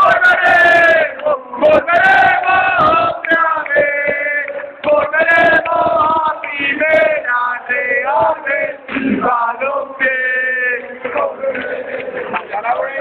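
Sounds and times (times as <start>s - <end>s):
men chanting and singing: 0.0s - 13.0s.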